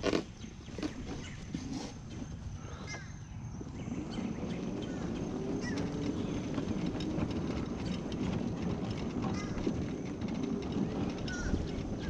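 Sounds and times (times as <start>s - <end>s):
mobility scooter motor hum: 0.0s - 12.0s
tyre rumble on asphalt: 0.0s - 12.0s.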